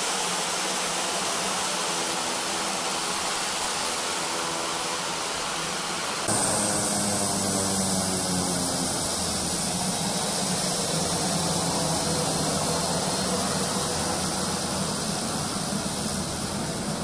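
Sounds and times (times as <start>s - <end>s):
turboprop engine running: 0.0s - 17.0s.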